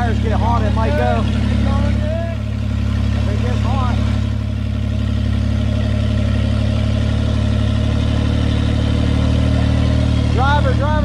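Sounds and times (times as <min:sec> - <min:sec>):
engine droning steadily: 0:00.0 - 0:11.0.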